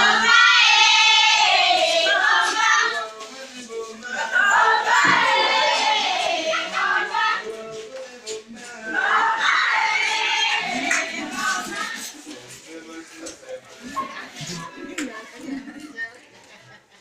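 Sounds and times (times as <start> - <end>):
music with high singing voices: 0.0 - 15.1.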